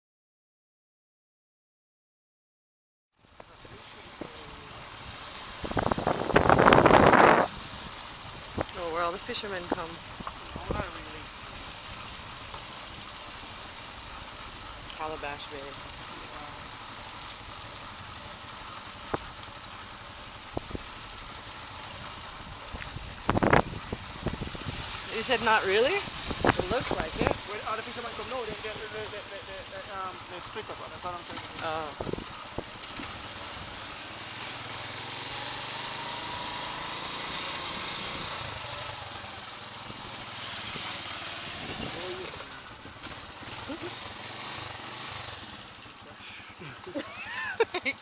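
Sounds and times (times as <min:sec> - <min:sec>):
motorbike engine running: 0:03.3 - 0:46.8.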